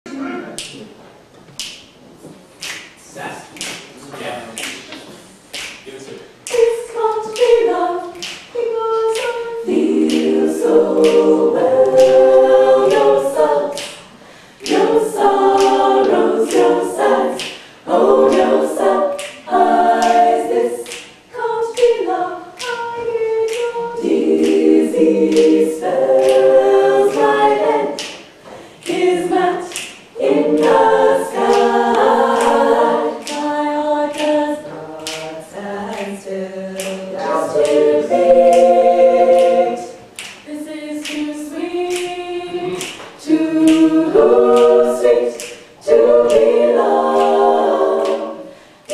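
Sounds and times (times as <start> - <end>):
women singing in harmony: 6.5 - 48.9.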